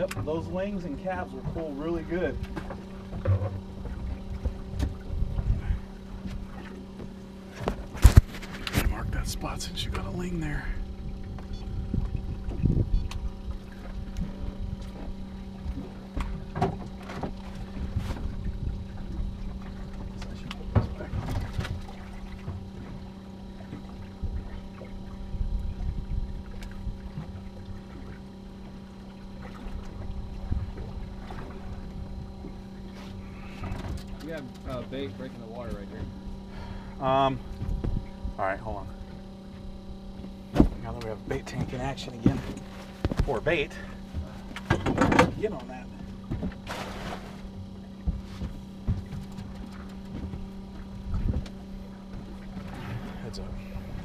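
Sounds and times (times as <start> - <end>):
boat engine humming: 0.0 - 54.0
low rumbling: 0.0 - 54.0.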